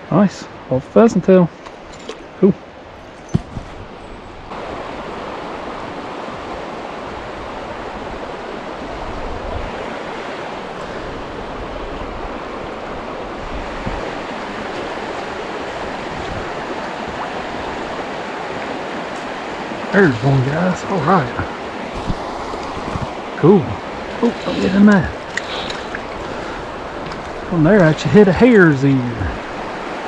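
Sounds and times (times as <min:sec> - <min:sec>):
flowing river water: 0:00.0 - 0:30.0.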